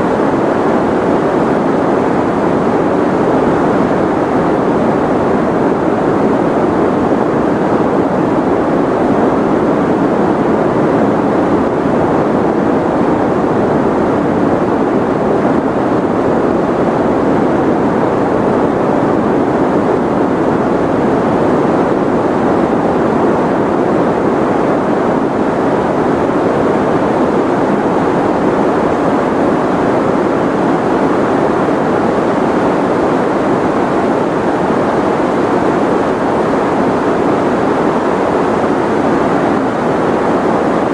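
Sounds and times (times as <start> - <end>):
muffled white noise hiss: 0.0 - 40.9.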